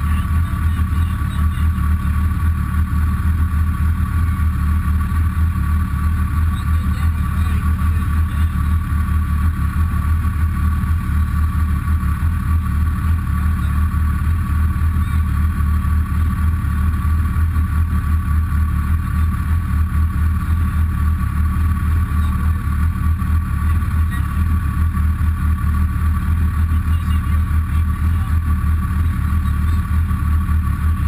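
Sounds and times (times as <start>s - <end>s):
engine idling low hum: 0.0s - 31.0s.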